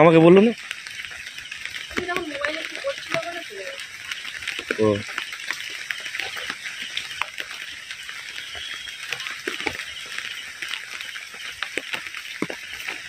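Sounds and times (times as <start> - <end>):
rain hissing: 0.0 - 13.0
water dripping on surfaces: 0.0 - 13.0.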